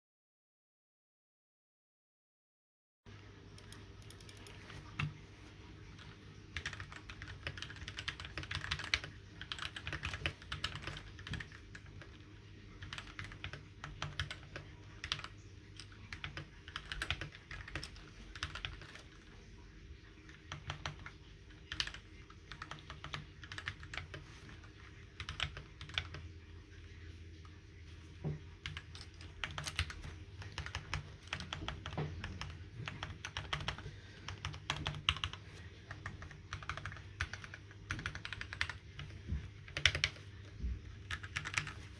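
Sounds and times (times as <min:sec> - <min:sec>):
mechanical keyboard typing: 0:03.6 - 0:05.2, 0:06.0 - 0:19.3, 0:20.3 - 0:26.2, 0:28.6 - 0:41.9.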